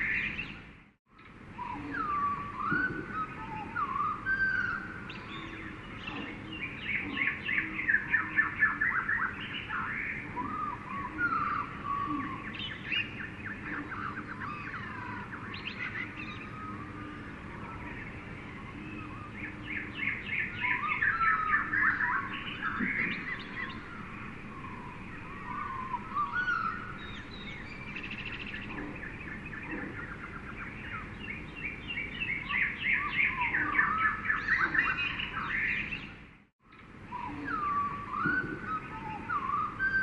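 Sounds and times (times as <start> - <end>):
birds singing and calling: 0.0 - 40.0
steady background hiss: 0.0 - 40.0.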